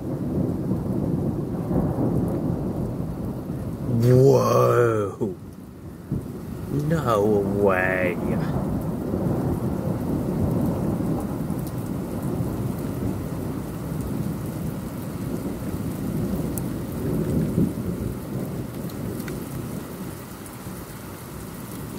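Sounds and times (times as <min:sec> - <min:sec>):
thunder rumbling: 0:00.0 - 0:04.0, 0:04.9 - 0:19.2
steady rain: 0:00.0 - 0:21.9.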